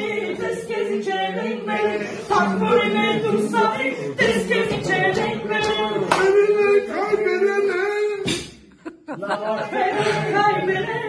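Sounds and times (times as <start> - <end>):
woman and man singing: 0.0 - 8.4, 9.2 - 11.0.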